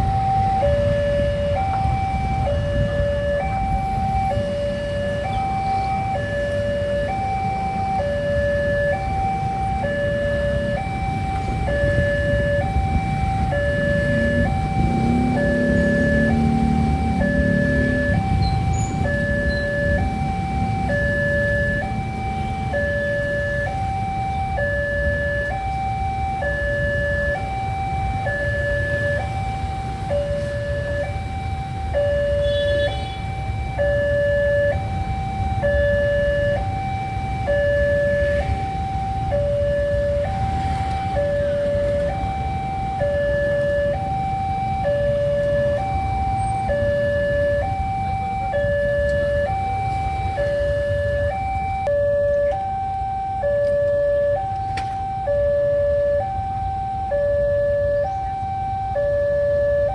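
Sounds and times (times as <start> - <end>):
two-tone crossing alarm: 0.0 - 59.9.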